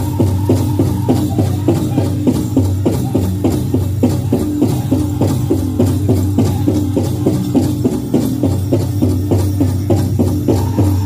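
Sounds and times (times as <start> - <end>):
big drum beating: 0.0 - 11.0
singers' voices: 0.0 - 11.0.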